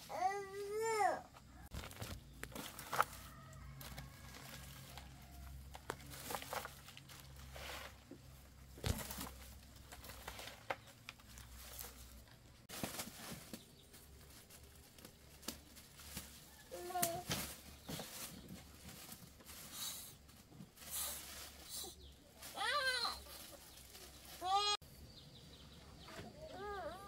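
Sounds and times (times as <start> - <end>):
hands rustling fern shoots: 1.6 - 24.8.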